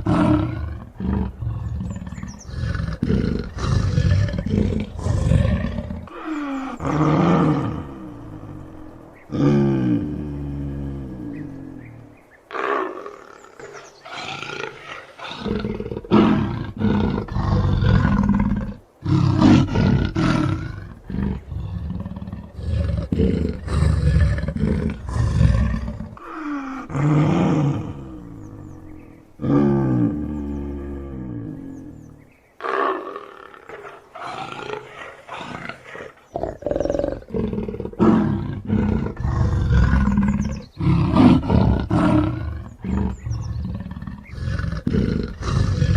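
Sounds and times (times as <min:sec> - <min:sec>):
leopard roaring: 0:00.0 - 0:45.9.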